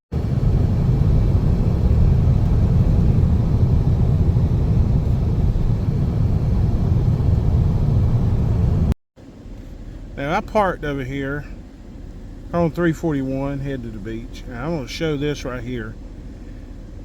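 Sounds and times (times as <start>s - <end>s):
van driving on road: 0.1s - 17.0s.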